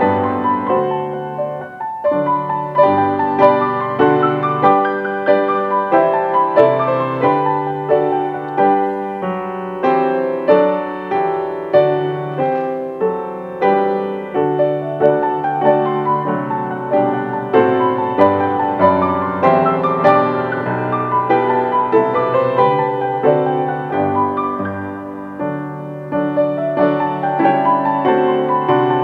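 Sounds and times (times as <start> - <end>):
grand piano four-hands: 0.0 - 29.0.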